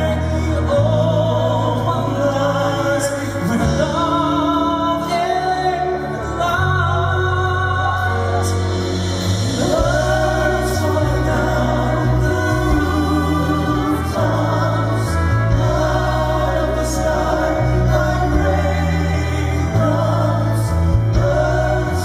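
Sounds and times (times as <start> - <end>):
men singing in harmony: 0.0 - 22.0
sustained instrumental accompaniment: 0.0 - 22.0.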